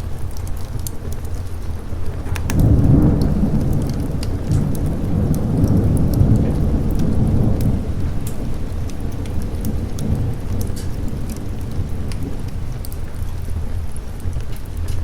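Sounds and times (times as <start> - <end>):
sharp drips or crackles: 0.0 - 15.0
steady rain: 0.0 - 15.0
rolling thunder: 2.2 - 14.9.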